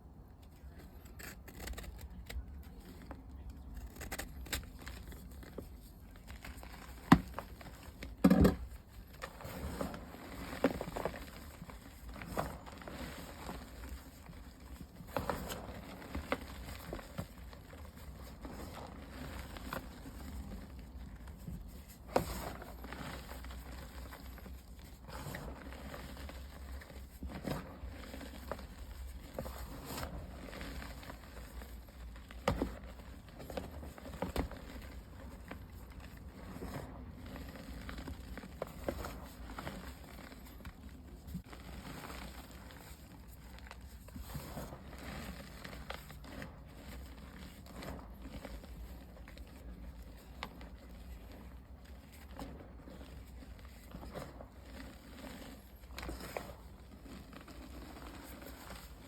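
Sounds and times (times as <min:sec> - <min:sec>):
chalk crumbling and crackling: 0:00.2 - 0:59.0.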